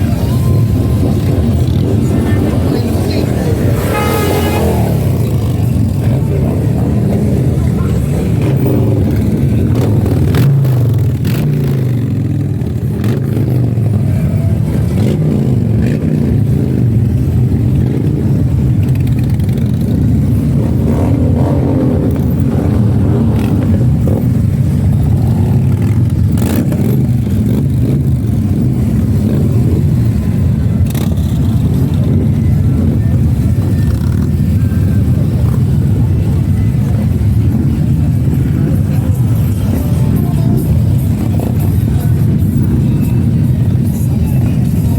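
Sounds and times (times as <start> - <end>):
motorcycle engines revving: 0.0 - 44.9.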